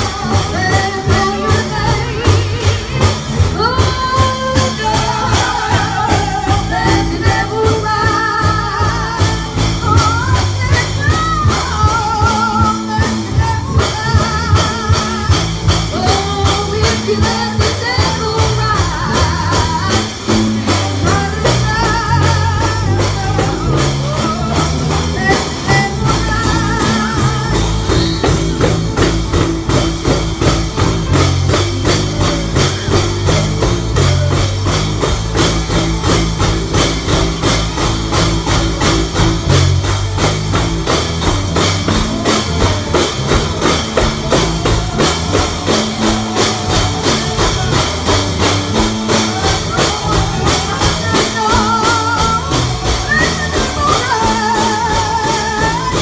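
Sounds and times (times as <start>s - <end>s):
woman singing with vibrato: 0.0s - 39.9s, 41.5s - 56.0s
band with guitar and drums: 0.0s - 56.0s.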